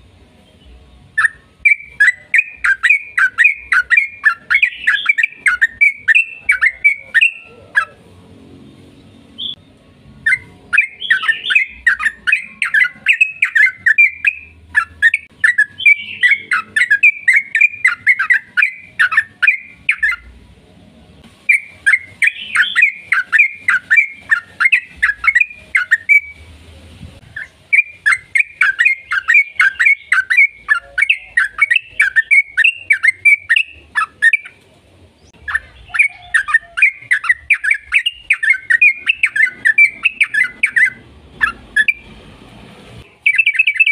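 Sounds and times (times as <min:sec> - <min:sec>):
bird singing chattering notes: 0:01.1 - 0:08.0, 0:09.0 - 0:20.3, 0:21.5 - 0:26.4, 0:27.3 - 0:34.6, 0:35.2 - 0:42.1, 0:43.1 - 0:43.9.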